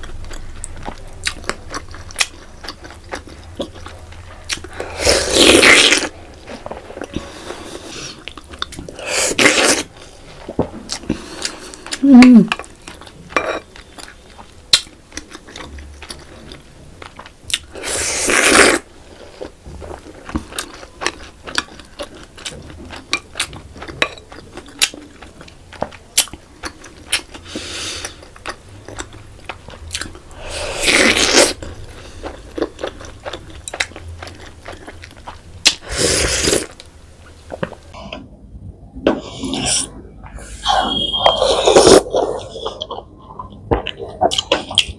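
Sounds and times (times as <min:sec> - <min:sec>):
wet chewing with mouth clicks: 0:00.0 - 0:36.9, 0:41.3 - 0:44.9.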